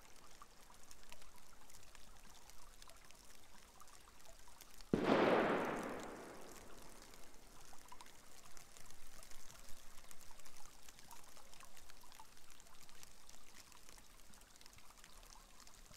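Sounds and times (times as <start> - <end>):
water trickling in a channel: 0.0 - 4.9, 6.1 - 15.9
water dripping: 0.0 - 15.9.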